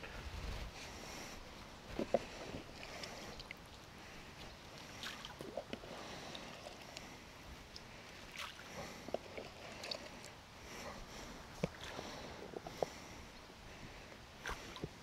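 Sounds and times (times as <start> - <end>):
water splashing and lapping: 0.6 - 15.0.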